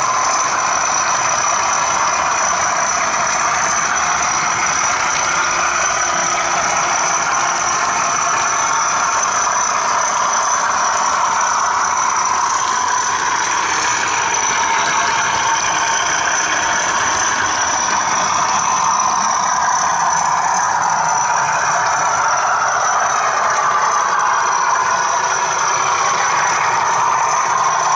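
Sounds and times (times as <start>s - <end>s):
diesel engine sound from speaker: 0.0s - 27.9s
model wagon wheels clattering: 0.0s - 27.9s
steady high whine: 0.0s - 27.9s.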